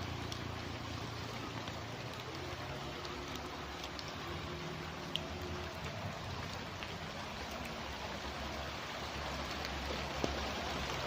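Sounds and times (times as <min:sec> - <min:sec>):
light rain hiss: 0:00.0 - 0:11.0
raindrop ticks: 0:00.0 - 0:11.0.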